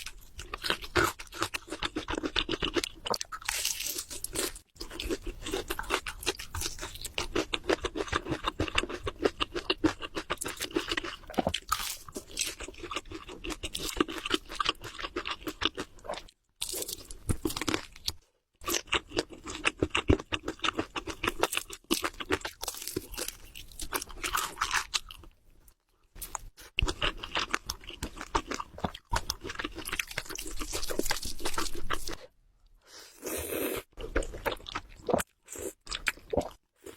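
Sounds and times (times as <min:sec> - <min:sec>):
crunching and chewing food: 0:00.0 - 0:32.8, 0:33.4 - 0:36.9.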